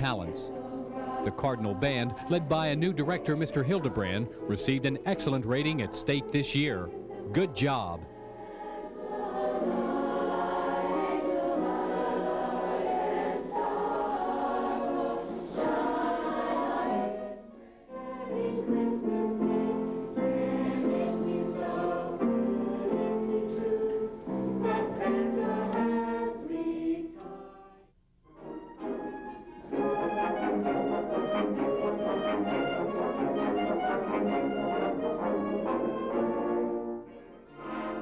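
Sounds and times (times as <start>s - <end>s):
choir singing in parts: 0.0s - 38.0s.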